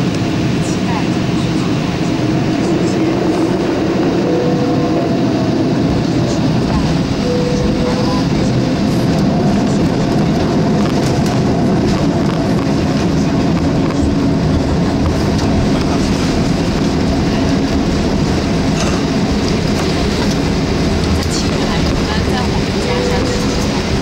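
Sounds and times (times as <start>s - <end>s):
airplane cabin rumble taxiing: 0.0s - 24.0s.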